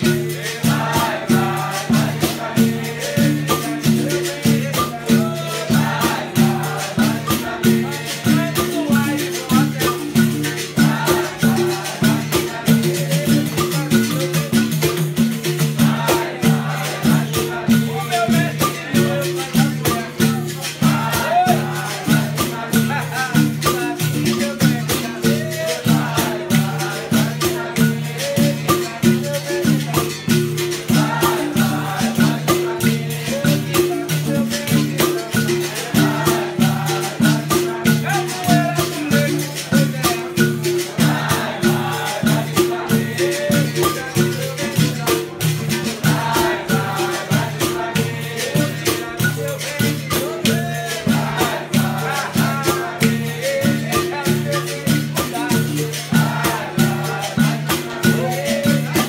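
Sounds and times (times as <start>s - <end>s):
hand drum: 0.0s - 59.0s
pandeiros: 0.0s - 59.0s
shakers rattling: 0.0s - 59.0s
voices singing: 0.0s - 59.0s.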